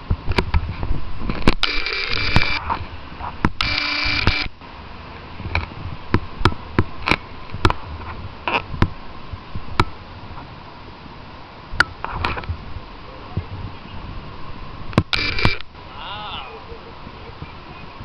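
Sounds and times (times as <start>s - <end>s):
low background hiss: 0.0s - 18.0s
steady buzzing tone: 0.0s - 18.0s.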